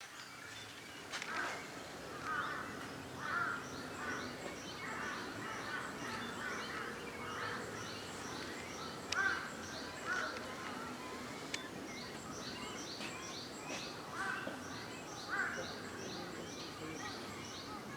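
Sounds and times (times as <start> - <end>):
outdoor background hiss: 0.0 - 17.9.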